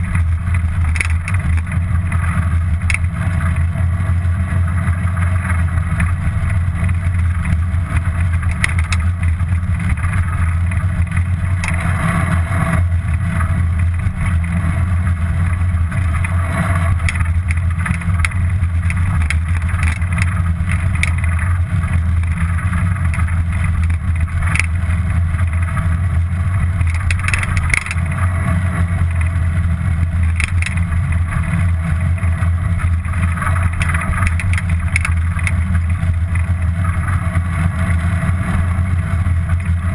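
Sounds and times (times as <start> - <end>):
small clicks and rattles: 0.0 - 3.8, 4.5 - 39.9
bicycle riding rumble: 0.0 - 39.9
wind noise: 0.0 - 39.9.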